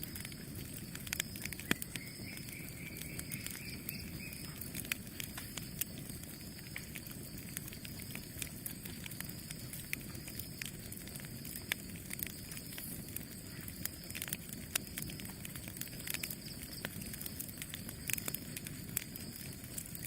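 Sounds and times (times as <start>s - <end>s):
burning wood crackling and popping: 0.0s - 20.0s
campfire flames rushing: 0.0s - 20.0s.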